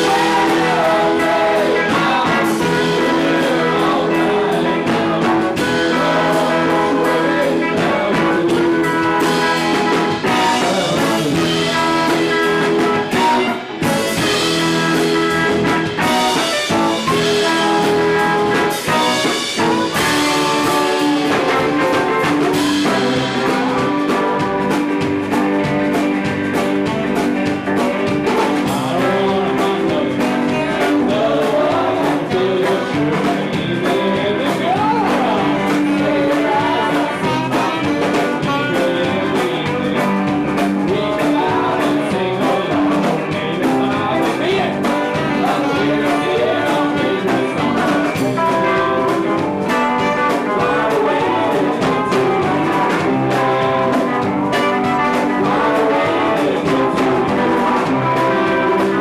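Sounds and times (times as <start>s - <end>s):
drums: 0.0s - 59.0s
electric guitar: 0.0s - 59.0s
person singing: 0.0s - 59.0s.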